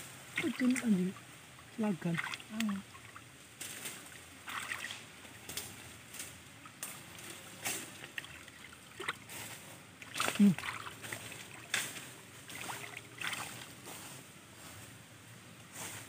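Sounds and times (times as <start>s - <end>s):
muddy water sloshing and splashing: 0.1s - 14.2s.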